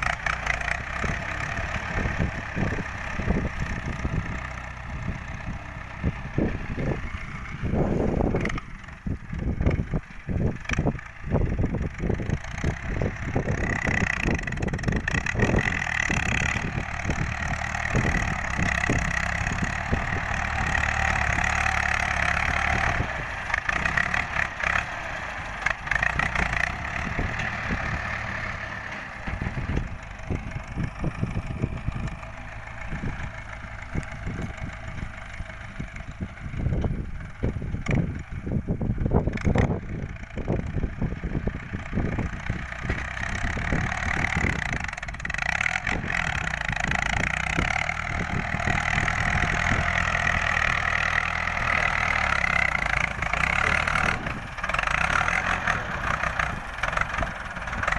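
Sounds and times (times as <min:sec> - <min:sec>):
tractor diesel engine running: 0:00.0 - 0:57.9
wind buffeting microphone: 0:00.0 - 0:57.9.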